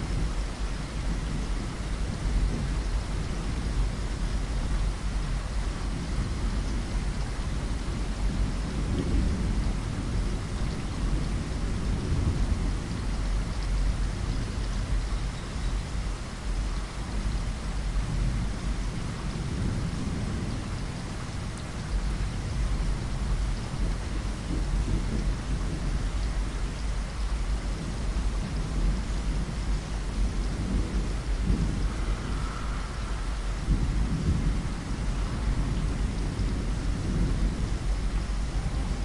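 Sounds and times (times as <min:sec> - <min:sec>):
rain pattering on window glass: 0:00.0 - 0:39.0.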